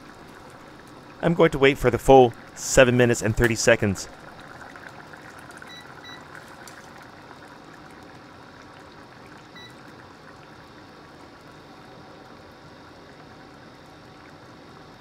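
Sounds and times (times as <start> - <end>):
broth simmering in saucepan: 0.0 - 15.0.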